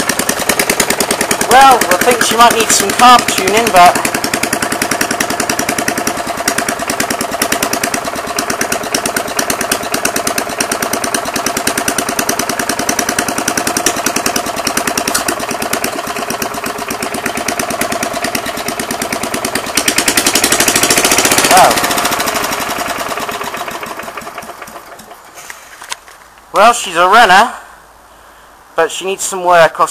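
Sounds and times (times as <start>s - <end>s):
lawnmower engine popping: 0.0s - 26.6s.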